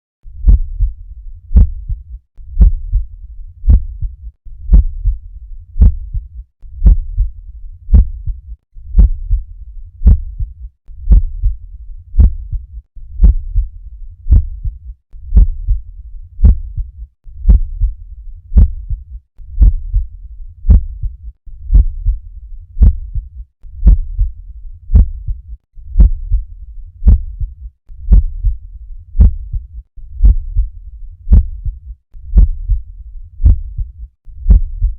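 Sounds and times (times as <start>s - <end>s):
heartbeat through stethoscope: 0.3s - 34.9s.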